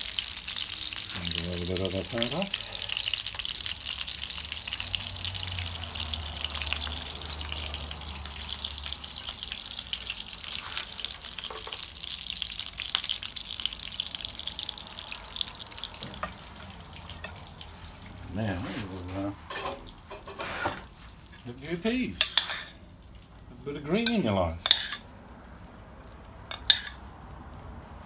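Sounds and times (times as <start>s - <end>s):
meat sizzling in oil: 0.0s - 25.1s, 26.0s - 27.1s.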